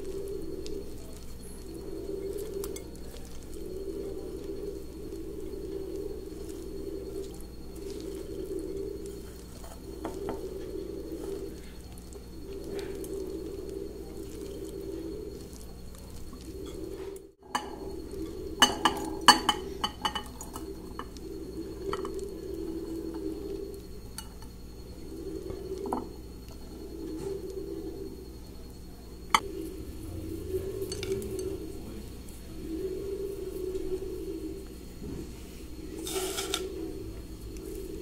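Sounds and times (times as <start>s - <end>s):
low cooing: 0.0s - 38.0s.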